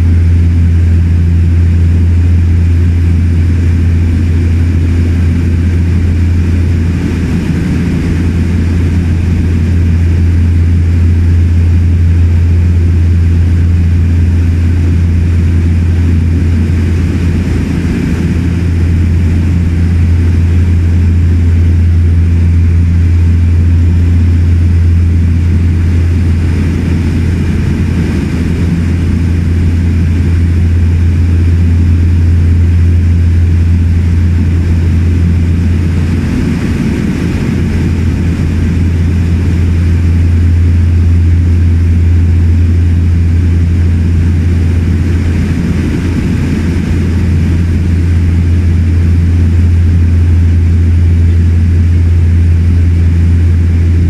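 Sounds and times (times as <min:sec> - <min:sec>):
turboprop engines droning in cabin: 0:00.0 - 0:54.0.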